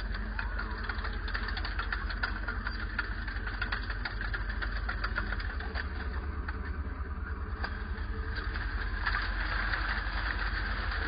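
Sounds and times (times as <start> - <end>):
tracks clicking on gravel: 0.0 - 6.8, 7.5 - 11.0
model tank engine drone: 0.0 - 11.0.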